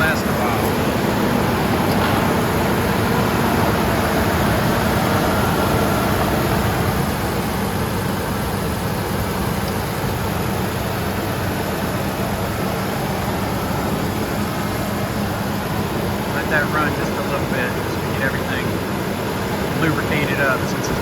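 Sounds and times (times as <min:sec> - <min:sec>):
pickup truck engine idling: 0:00.0 - 0:21.0.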